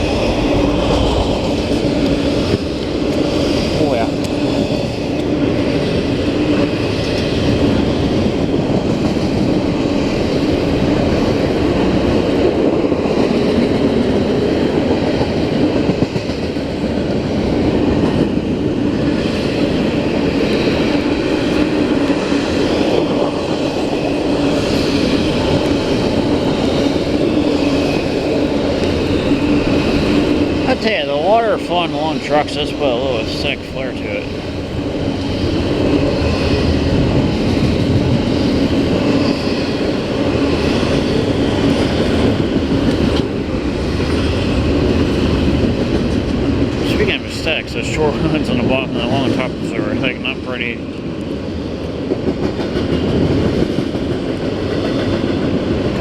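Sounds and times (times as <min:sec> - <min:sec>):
freight train rumbling past: 0:00.0 - 0:56.0
steel wheels clattering on rails: 0:00.0 - 0:56.0.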